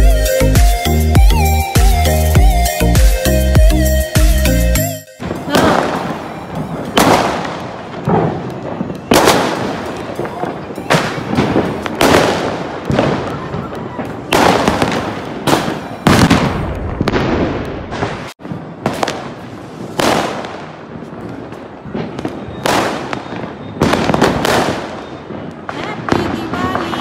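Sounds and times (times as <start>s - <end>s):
firecrackers banging and crackling: 5.2s - 27.0s.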